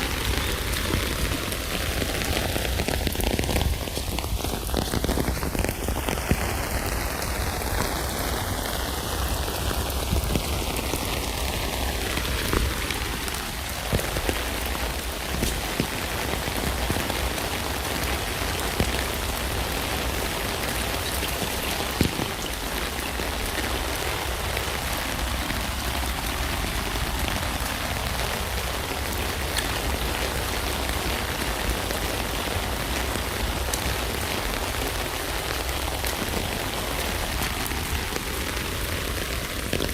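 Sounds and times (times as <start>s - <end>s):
rain pattering on a tent: 0.0s - 39.9s.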